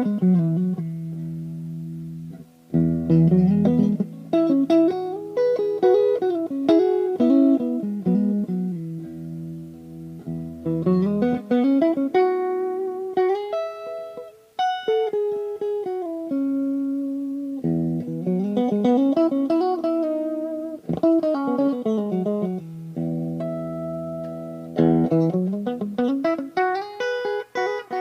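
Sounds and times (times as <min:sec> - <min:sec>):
clean electric guitar: 0:00.0 - 0:28.0.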